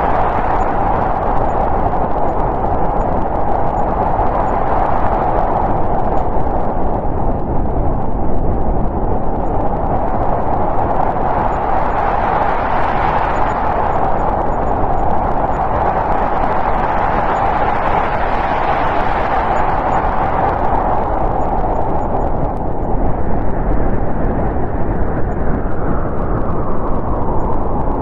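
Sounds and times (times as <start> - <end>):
rushing wind: 0.0 - 28.0.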